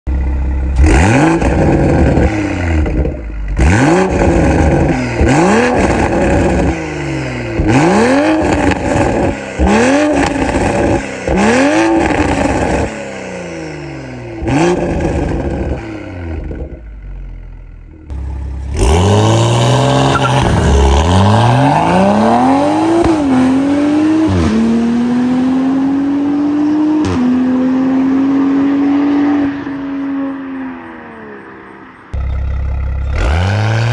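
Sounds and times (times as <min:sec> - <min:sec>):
car engine revving: 0:00.1 - 0:30.8, 0:32.1 - 0:33.9.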